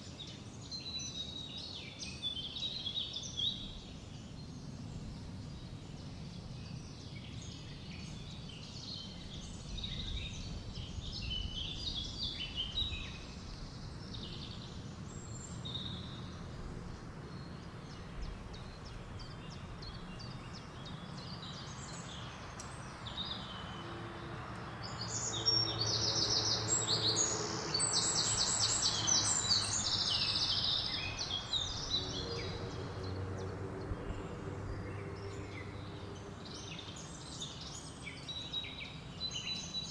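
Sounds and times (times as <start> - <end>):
songbirds chirping and singing: 0.2 - 39.9.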